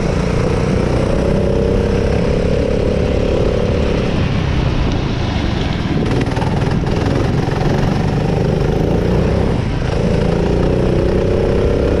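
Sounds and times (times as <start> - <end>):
kart engine running: 0.0 - 12.0.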